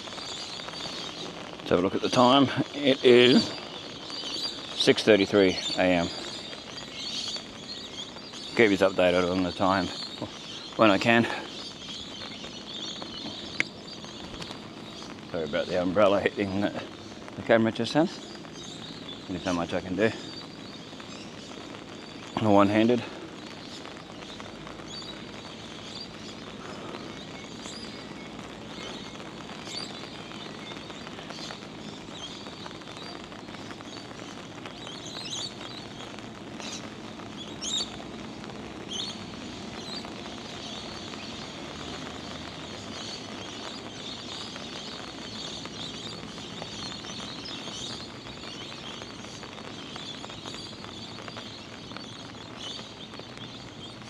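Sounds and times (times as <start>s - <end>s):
birds chirping: 0.0s - 54.0s
rain pattering: 0.0s - 54.0s.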